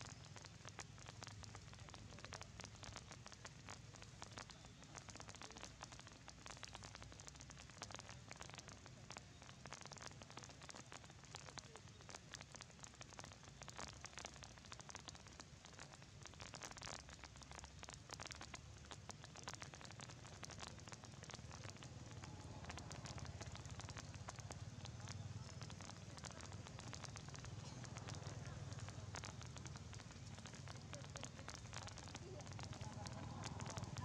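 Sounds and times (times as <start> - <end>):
faint rain falling: 0.0 - 34.0.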